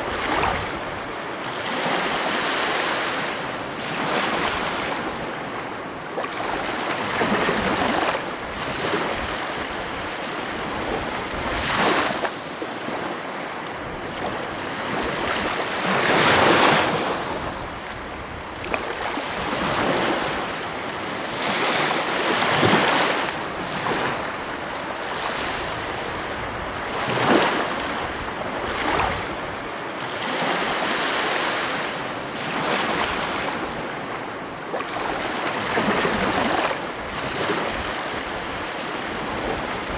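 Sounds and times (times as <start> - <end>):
ocean waves crashing: 0.0 - 39.9.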